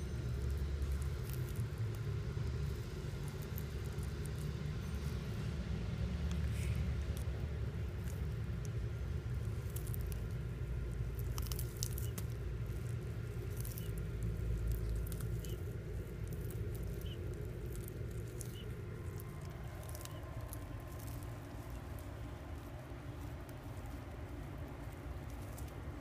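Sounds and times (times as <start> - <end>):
steady low rumble: 0.0 - 26.0
tortoises crunching leafy greens: 0.0 - 26.0.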